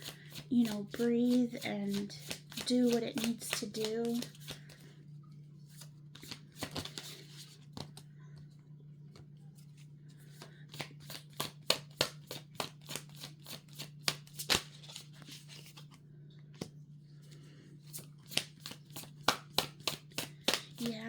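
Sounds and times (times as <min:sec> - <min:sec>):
cards being shuffled: 0:00.0 - 0:04.8, 0:05.7 - 0:21.0.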